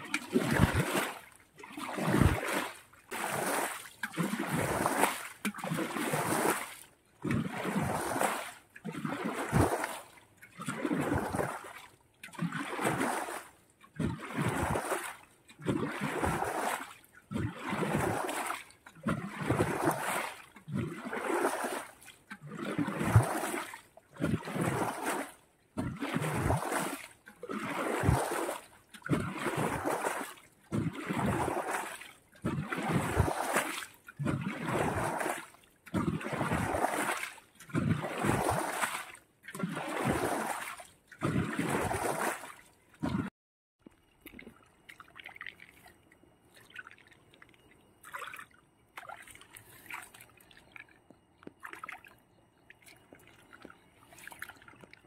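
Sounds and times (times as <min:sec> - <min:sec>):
pond water splashing: 0:00.0 - 0:55.0.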